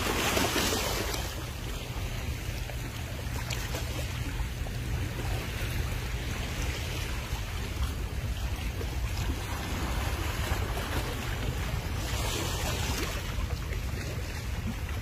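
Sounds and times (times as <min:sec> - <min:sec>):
sea water rushing: 0:00.0 - 0:15.0
wind rumbling on microphone: 0:00.0 - 0:15.0.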